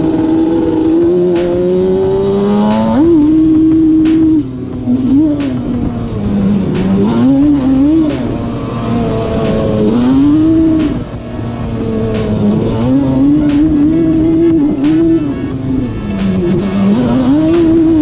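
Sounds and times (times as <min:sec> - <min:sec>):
engine crackles: 0:00.0 - 0:18.0.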